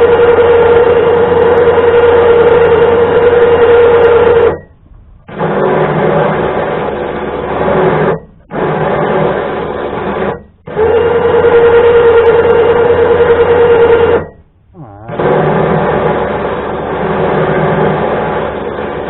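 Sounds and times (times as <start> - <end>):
electric winch motor running: 0.0 - 4.7, 5.3 - 19.0.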